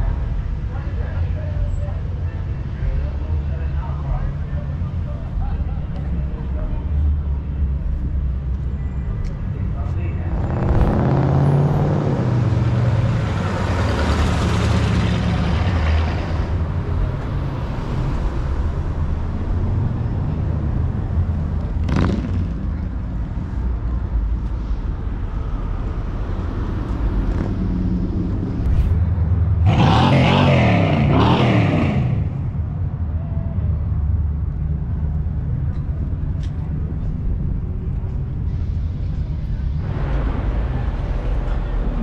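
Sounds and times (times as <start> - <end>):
car engines rumbling: 0.0 - 42.0.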